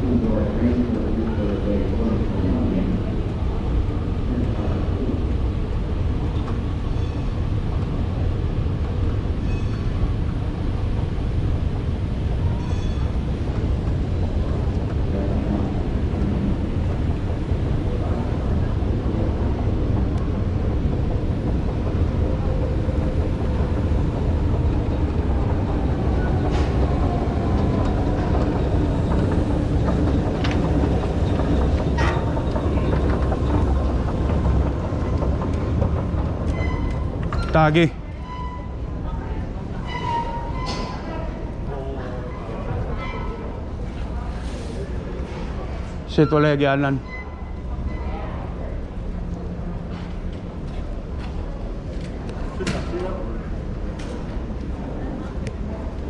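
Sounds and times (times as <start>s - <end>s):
ride rumbling in motion: 0.0s - 56.0s.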